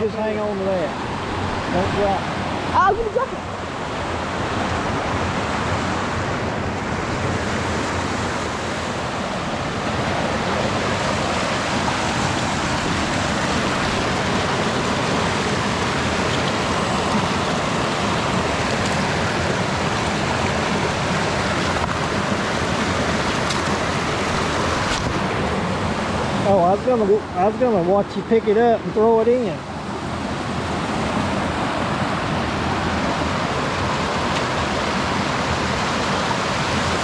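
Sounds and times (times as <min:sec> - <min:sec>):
creek water rushing: 0:00.0 - 0:37.0.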